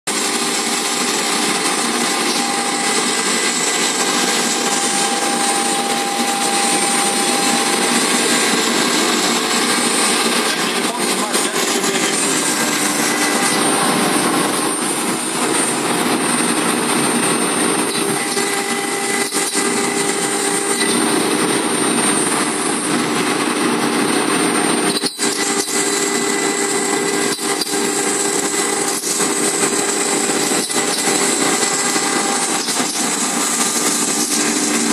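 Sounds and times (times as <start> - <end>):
router cutting metal panel: 0.1 - 34.9
router spindle whining: 0.1 - 34.9.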